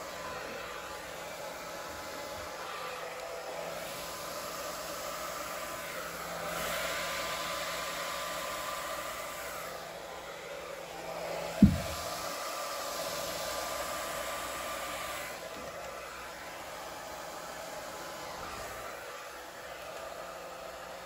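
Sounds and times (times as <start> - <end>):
hair dryer blowing air: 0.0 - 21.0.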